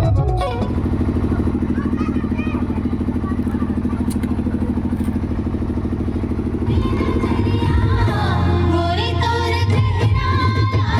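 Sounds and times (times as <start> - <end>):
engine thudding: 0.4 - 10.9.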